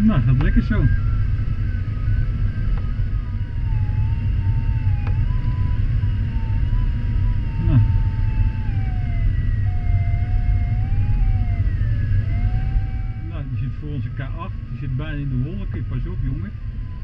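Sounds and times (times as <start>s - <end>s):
wavering variometer tone: 0.0s - 17.0s.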